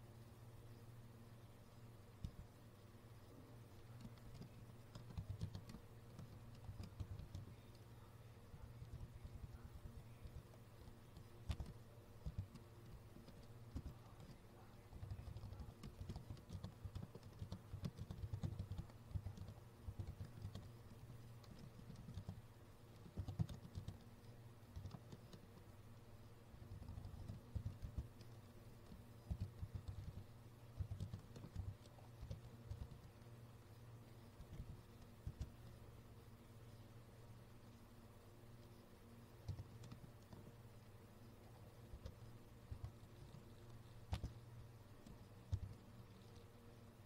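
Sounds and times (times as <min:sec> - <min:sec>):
faint keyboard typing: 0:00.4 - 0:47.0.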